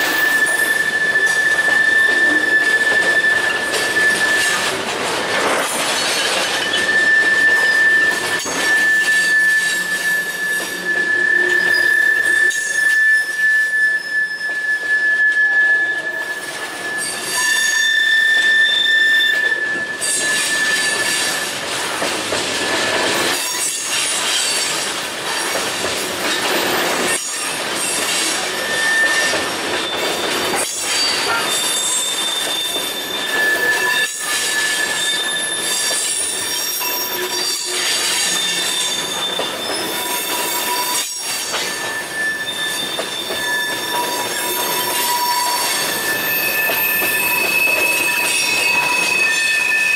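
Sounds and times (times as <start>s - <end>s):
steel wheels squealing: 0.0s - 49.9s
train wheels rumbling on rails: 0.0s - 49.9s.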